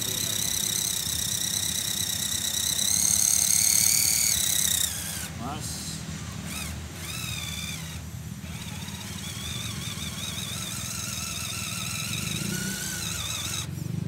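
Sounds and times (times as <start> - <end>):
rc truck motor whining: 0.0 - 14.0.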